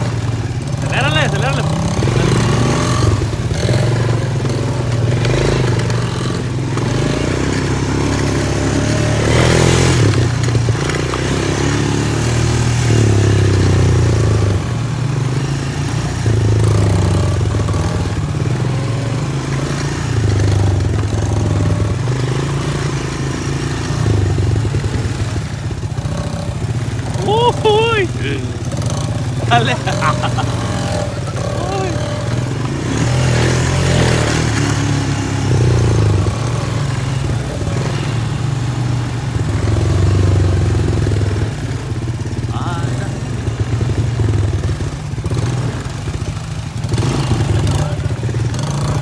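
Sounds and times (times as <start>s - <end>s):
atv engine revving: 0.0s - 49.0s.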